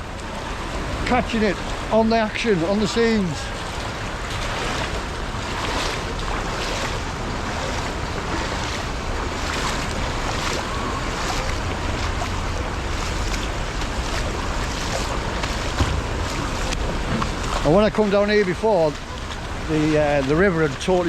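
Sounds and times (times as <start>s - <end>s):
heavy rain on water: 0.0s - 21.0s
wind buffeting microphone: 0.0s - 21.0s.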